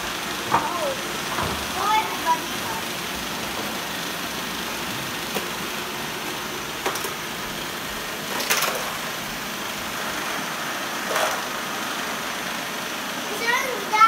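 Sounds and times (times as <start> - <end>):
robot vacuum cleaners humming: 0.0 - 14.0.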